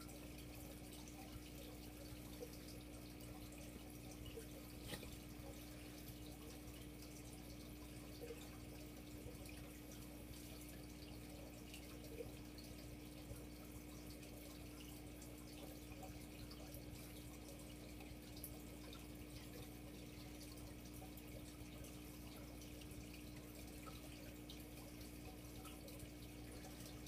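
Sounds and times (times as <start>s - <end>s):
aquarium filter hum: 0.0s - 27.0s
small water drips: 0.0s - 27.0s
water trickling: 0.0s - 27.0s.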